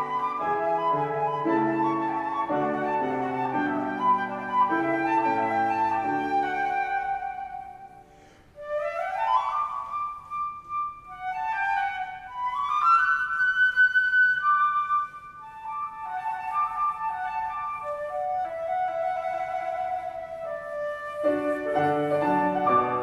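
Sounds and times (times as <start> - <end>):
flute playing runs: 0.0 - 8.0, 8.6 - 23.0.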